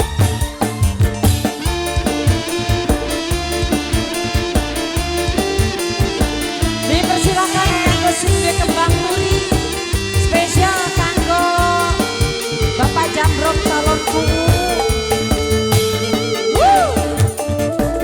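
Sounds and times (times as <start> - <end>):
band music with drum beat: 0.0 - 18.0.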